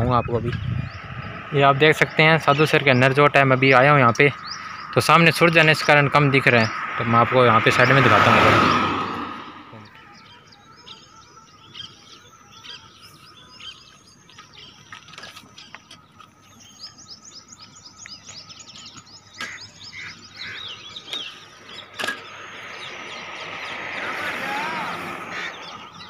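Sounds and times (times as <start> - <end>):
small birds chirping chorus: 0.0 - 26.0.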